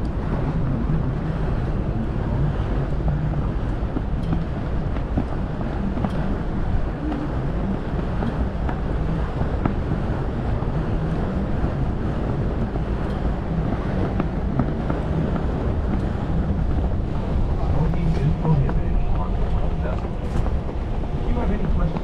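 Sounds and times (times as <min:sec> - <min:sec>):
ferry engine droning: 0:00.0 - 0:22.0
water washing past hull: 0:00.0 - 0:22.0
wind buffeting microphone: 0:00.0 - 0:22.0.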